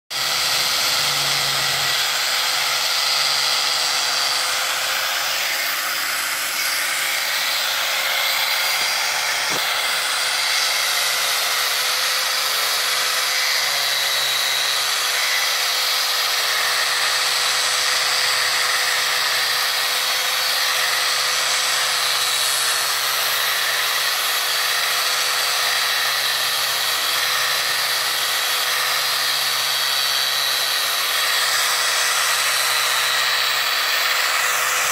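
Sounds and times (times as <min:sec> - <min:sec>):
electric sander on wood: 0:00.1 - 0:34.9.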